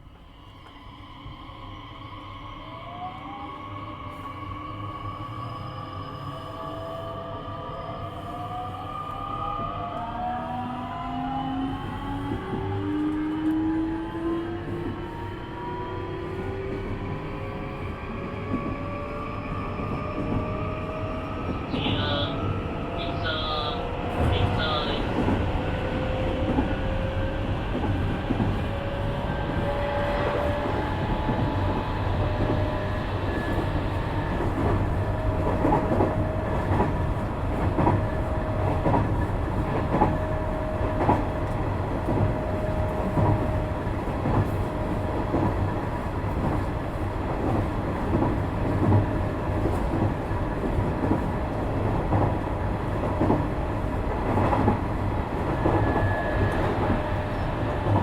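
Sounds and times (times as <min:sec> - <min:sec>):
train rumble: 0:08.2 - 0:58.0.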